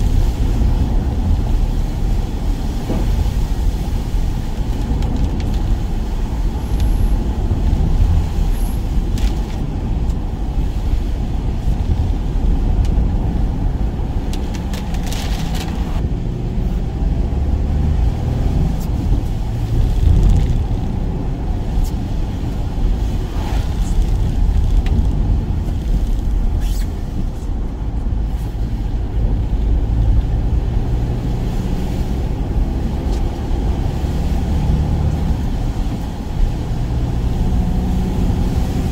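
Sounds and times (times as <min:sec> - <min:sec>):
van driving rumble: 0:00.0 - 0:38.9.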